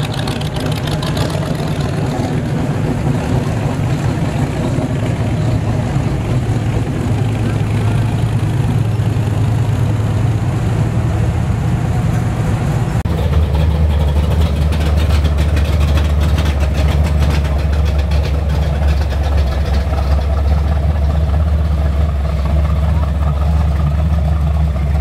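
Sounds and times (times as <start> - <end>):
truck engine exhaust rumble: 0.0 - 25.0.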